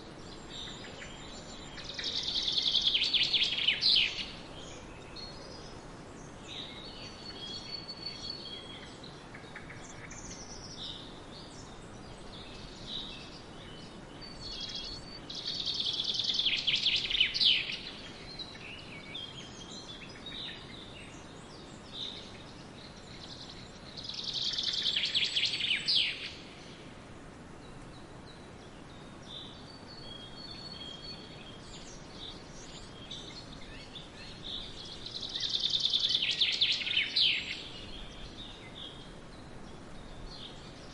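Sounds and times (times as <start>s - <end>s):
loud bird song: 0.0s - 40.9s
songbirds singing and chirping: 0.0s - 40.9s
steady background hiss: 0.0s - 40.9s.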